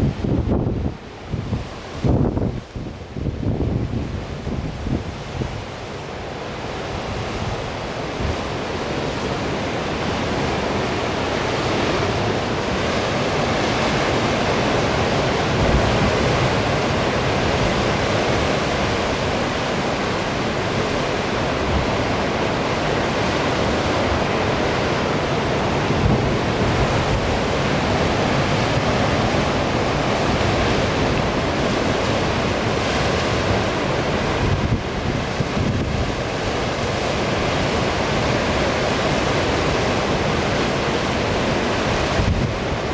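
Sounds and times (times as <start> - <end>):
wind gusting on microphone: 0.0 - 42.9.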